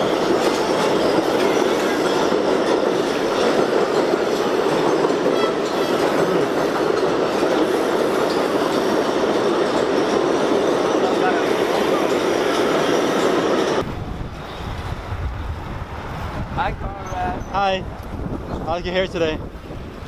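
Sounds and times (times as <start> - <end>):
elevated train rumbling: 0.0 - 20.0.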